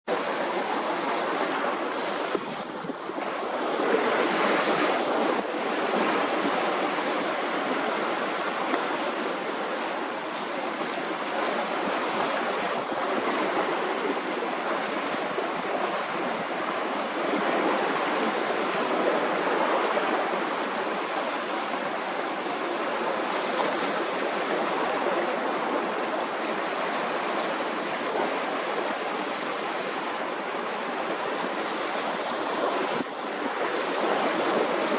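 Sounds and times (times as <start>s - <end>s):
sea waves washing on shore: 0.1s - 34.9s
wind on microphone: 0.1s - 34.9s.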